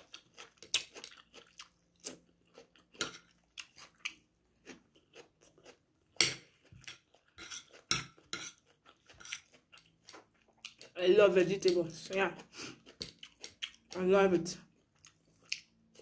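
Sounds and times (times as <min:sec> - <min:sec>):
radish crunching chewing: 0:00.0 - 0:16.0.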